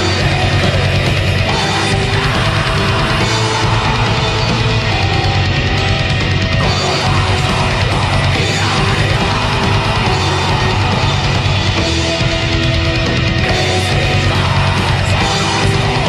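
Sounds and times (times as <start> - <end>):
distorted guitars: 0.0 - 16.0
drums playing: 0.0 - 16.0.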